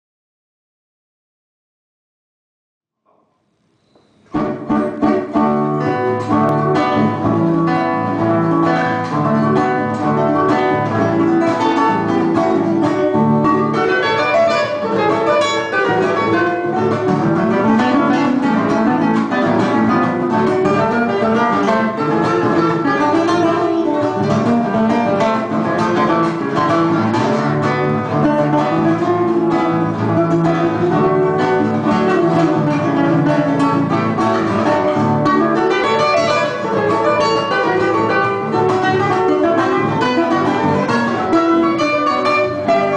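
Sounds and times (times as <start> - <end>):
acoustic guitars playing folk tune: 3.8 - 42.9.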